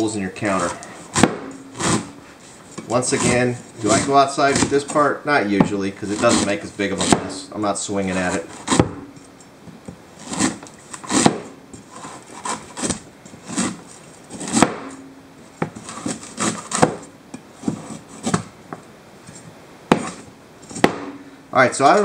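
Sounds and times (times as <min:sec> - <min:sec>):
knife scraping coconut husk: 0:00.4 - 0:09.0, 0:10.2 - 0:15.0, 0:15.6 - 0:18.5, 0:19.2 - 0:20.9.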